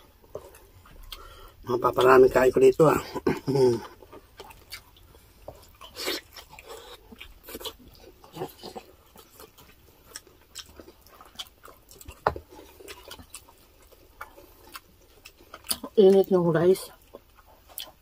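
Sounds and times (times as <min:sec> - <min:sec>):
chewing and biting: 0:03.0 - 0:18.0.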